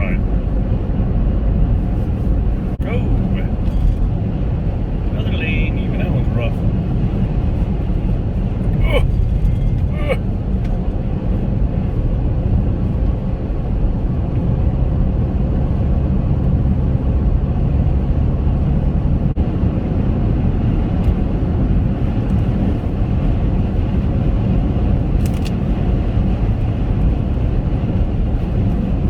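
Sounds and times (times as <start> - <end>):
car engine hum: 0.0 - 29.0
road and tyre noise: 0.0 - 29.0.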